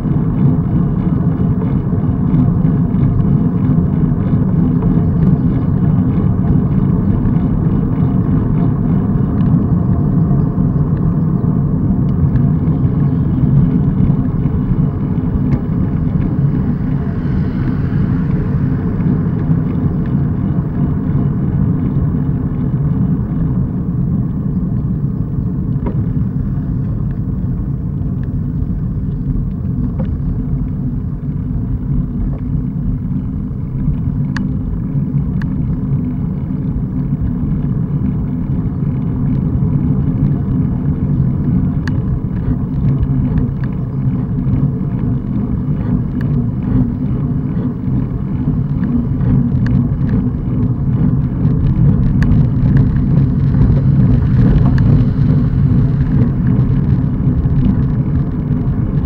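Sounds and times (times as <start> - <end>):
bicycle tyre road noise: 0.0 - 59.0
wind buffeting microphone: 0.0 - 59.0.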